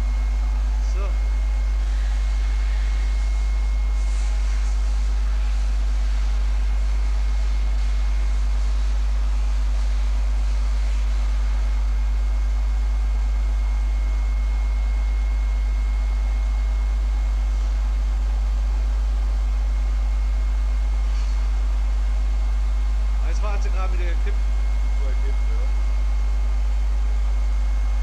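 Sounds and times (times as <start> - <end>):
faint high whine: 0.0 - 28.0
grinding machine deep hum: 0.0 - 28.0.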